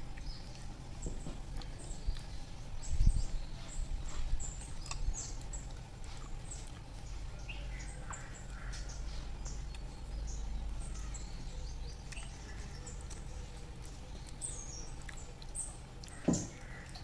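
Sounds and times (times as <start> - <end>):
low steady rumble: 0.0 - 17.0
small birds chirping: 0.0 - 17.0.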